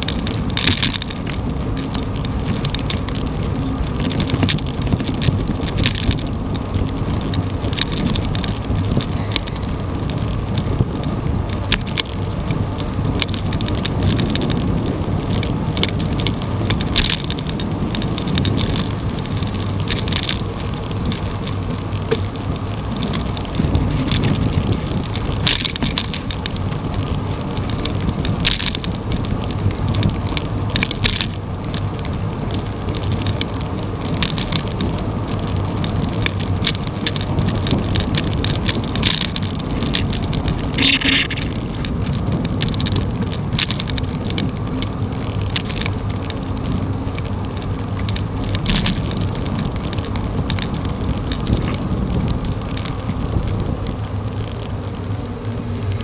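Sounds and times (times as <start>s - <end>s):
bike clicks and rattles: 0.0s - 56.0s
wind buffeting microphone: 0.0s - 56.0s.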